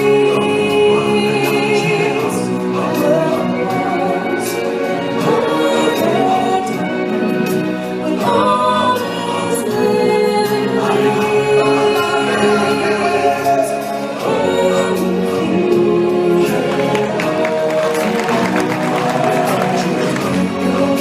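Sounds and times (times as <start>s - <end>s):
band accompaniment: 0.0s - 21.0s
choir singing held notes: 0.0s - 21.0s.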